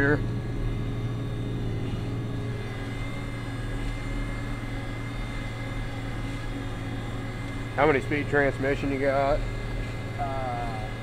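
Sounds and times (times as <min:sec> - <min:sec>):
steady high whine: 0:00.0 - 0:11.0.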